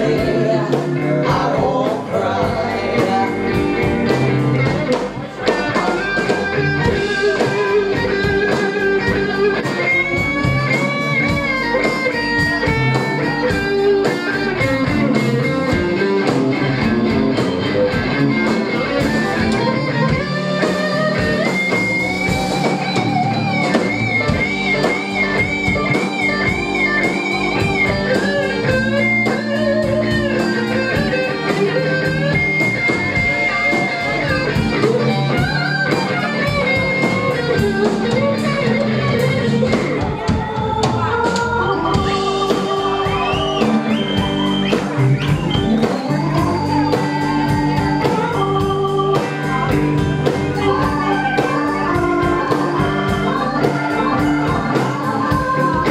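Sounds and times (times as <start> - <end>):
live rock blues band: 0.0 - 55.9
electric guitar solo: 2.4 - 55.9.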